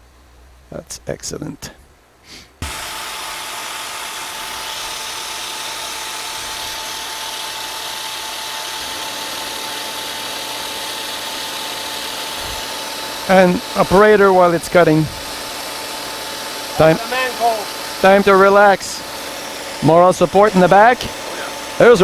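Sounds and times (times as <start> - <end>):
milling machine cutting: 2.6 - 22.0.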